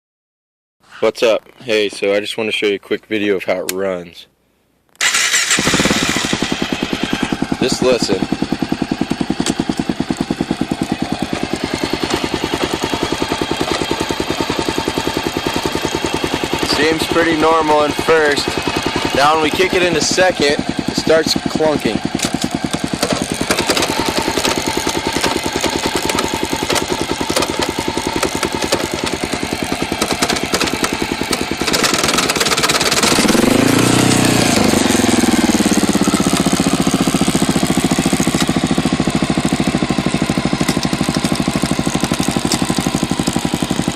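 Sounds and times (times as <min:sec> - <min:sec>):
motorcycle engine pulsing: 0:05.0 - 0:43.9.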